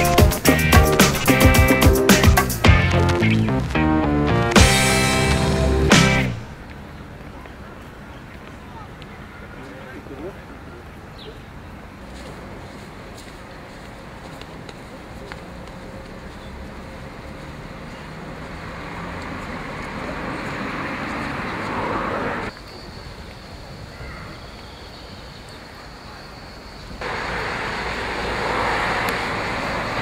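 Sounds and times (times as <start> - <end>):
traffic noise: 0.0 - 30.0.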